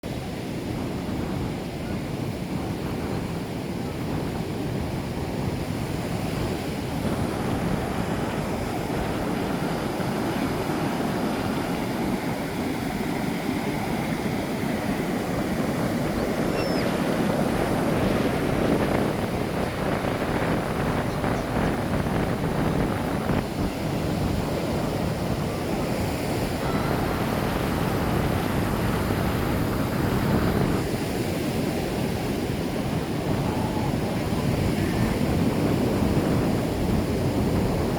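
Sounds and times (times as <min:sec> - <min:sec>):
ocean waves breaking: 0:00.0 - 0:37.9.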